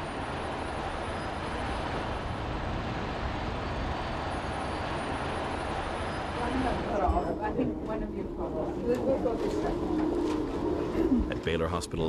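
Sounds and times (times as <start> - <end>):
city traffic rumble and hiss: 0.0 - 12.0.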